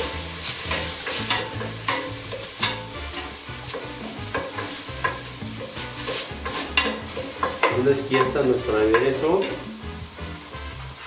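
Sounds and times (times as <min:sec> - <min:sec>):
wooden spoon scraping a pot: 0:00.0 - 0:09.8
onion and tomato sizzling: 0:00.0 - 0:11.0.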